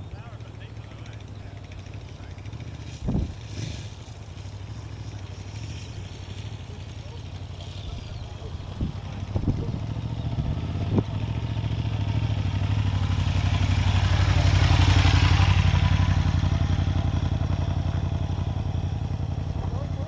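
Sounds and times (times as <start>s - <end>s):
motorcycle engine idling: 0.0s - 20.0s
motorcycle riding past: 0.0s - 20.0s.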